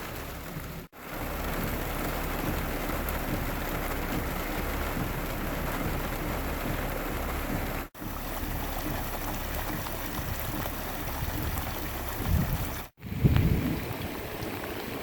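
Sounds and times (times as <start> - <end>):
running water: 0.0 - 15.0
steady rain: 0.0 - 15.0.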